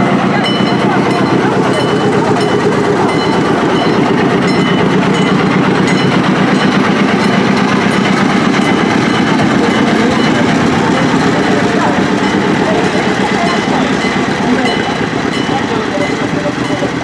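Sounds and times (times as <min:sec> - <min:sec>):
diesel locomotive engine running: 0:00.0 - 0:17.0.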